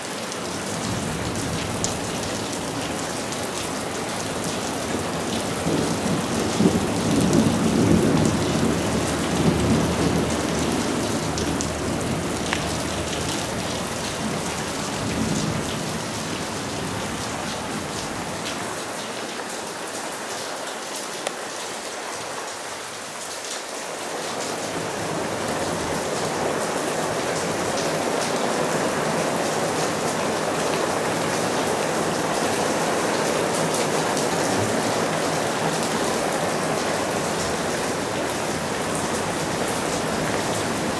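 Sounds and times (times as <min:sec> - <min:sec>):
heavy rain on roof: 0:00.0 - 0:40.9.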